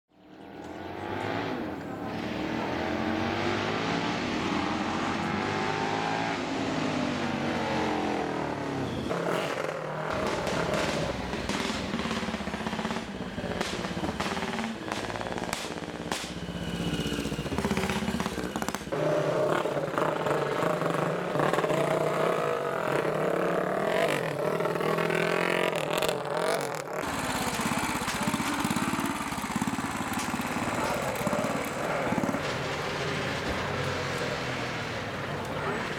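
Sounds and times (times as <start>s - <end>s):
motorcycle engines revving: 0.1s - 35.9s.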